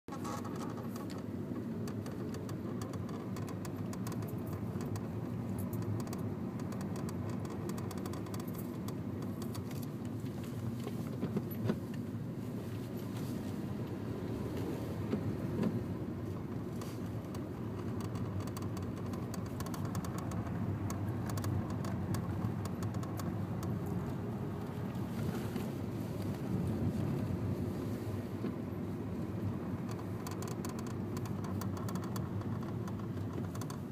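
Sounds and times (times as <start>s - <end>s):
clutch clicking and rattling: 0.1s - 12.1s, 14.5s - 27.4s, 28.4s - 33.9s
car engine running: 0.1s - 33.9s.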